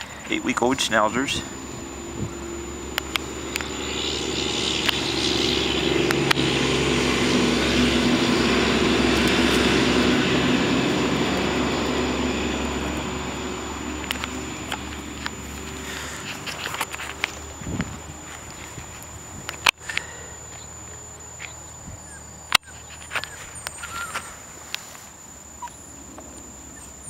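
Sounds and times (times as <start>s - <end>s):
propeller aircraft engine drone: 0.0s - 27.0s.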